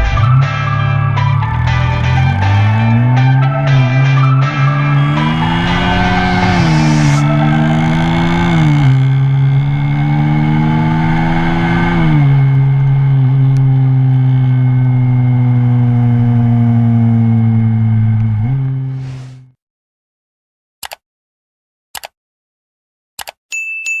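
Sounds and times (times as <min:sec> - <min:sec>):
motorcycle engine running: 0:00.0 - 0:19.4.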